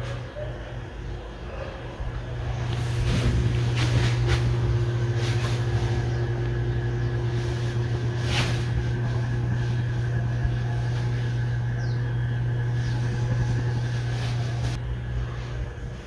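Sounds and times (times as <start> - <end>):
ceiling fan running: 0.0 - 16.0.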